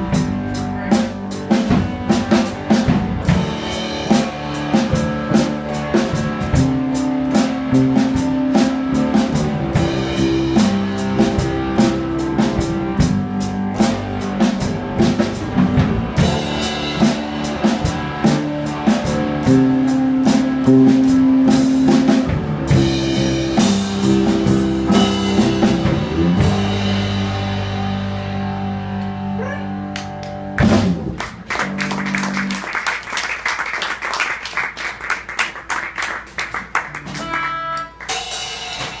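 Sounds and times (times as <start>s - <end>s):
electric guitars: 0.0s - 33.0s, 36.6s - 39.0s
drum kit: 0.0s - 39.0s.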